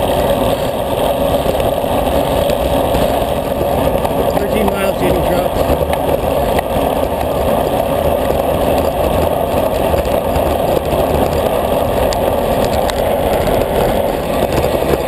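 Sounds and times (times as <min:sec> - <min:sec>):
low road rumble: 0:00.0 - 0:15.0
wind rush over microphone: 0:00.0 - 0:15.0.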